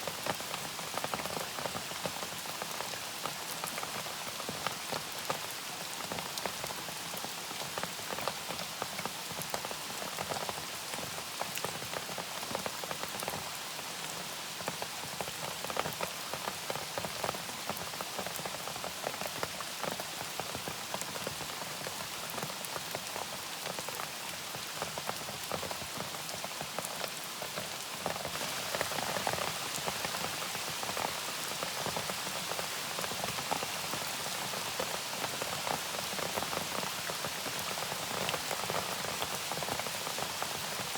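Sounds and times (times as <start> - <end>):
rain drops pattering: 0.0 - 40.9.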